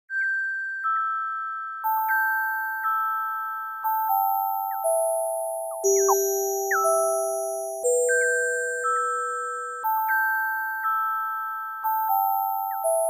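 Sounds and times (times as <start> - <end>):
chiptune melody of sine tones: 1.8 - 13.0.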